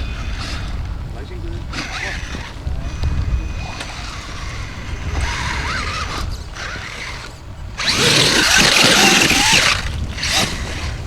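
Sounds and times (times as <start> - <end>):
toy car motor whirring: 0.0 - 0.9, 1.6 - 11.0.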